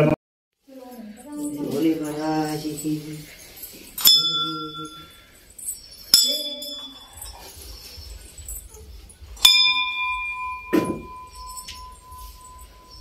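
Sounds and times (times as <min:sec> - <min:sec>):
bell ringing: 0:00.9 - 0:13.0.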